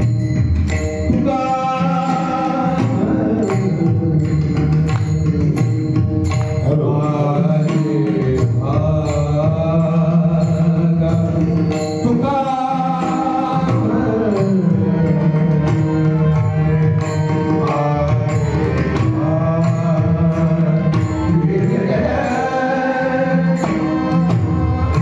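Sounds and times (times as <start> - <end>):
man singing devotional song: 1.0 - 25.0.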